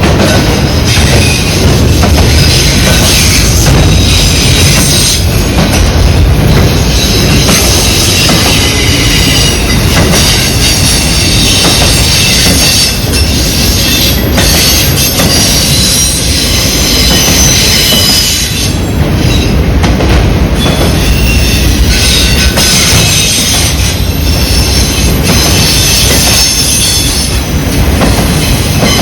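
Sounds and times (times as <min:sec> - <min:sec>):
freight cars rumbling on rails: 0:00.0 - 0:29.0.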